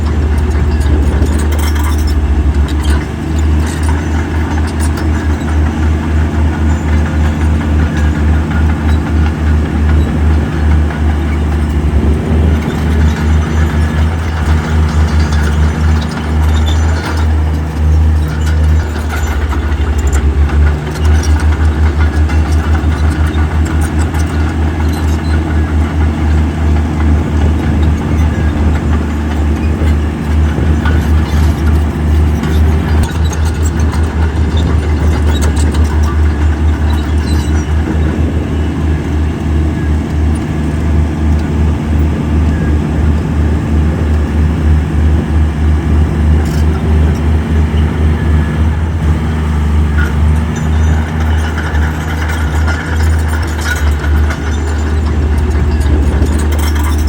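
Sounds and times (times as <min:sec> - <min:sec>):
clicks and clanks: 0:00.0 - 0:43.3, 0:46.2 - 0:57.0
diesel engine rumbling: 0:00.0 - 0:57.0.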